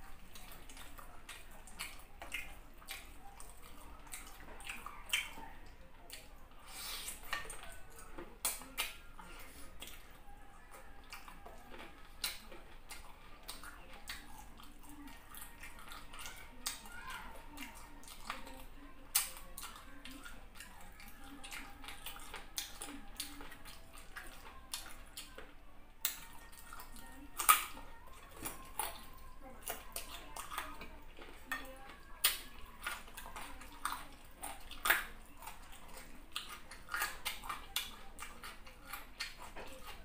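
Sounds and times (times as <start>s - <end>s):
wet chewing and mouth smacking: 0.0s - 40.0s.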